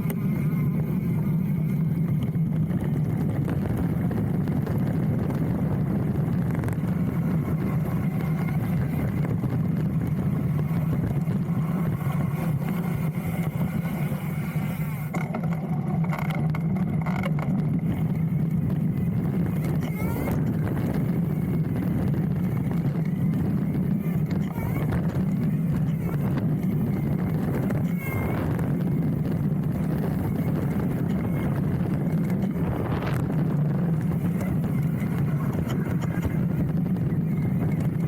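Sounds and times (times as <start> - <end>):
wind buffeting microphone: 0.0 - 15.2, 15.8 - 38.0
bike tyres rolling on dirt: 0.0 - 38.0.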